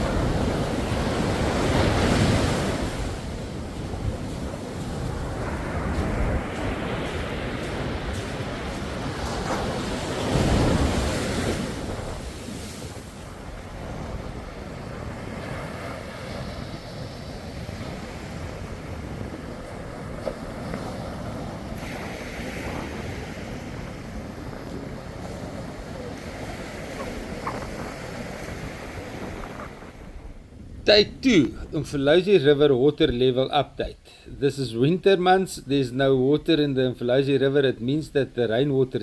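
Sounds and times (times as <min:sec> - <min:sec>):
wind noise on microphone: 0:00.0 - 0:31.8
surf washing on beach: 0:00.0 - 0:32.3.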